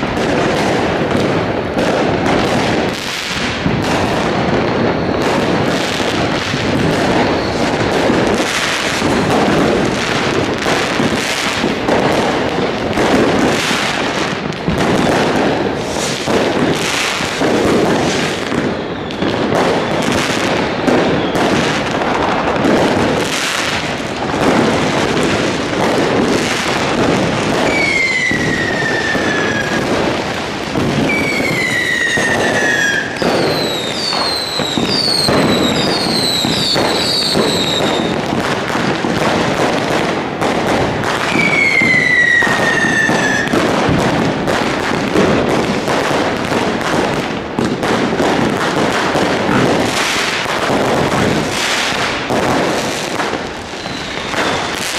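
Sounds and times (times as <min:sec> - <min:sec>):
firecracker bangs and crackling: 0:00.0 - 0:54.9
whistling fireworks: 0:00.0 - 0:54.9.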